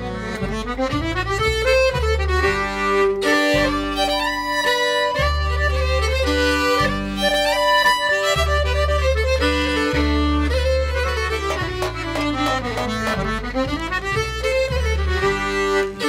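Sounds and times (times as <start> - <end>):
fiddle melody: 0.0 - 16.0
held bass notes: 0.0 - 16.0.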